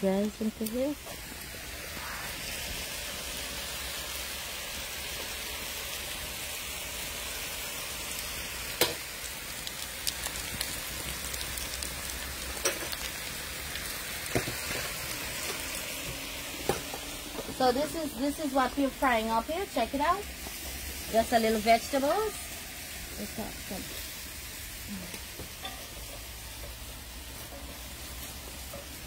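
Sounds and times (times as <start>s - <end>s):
vegetables sizzling in a pan: 0.0s - 29.0s.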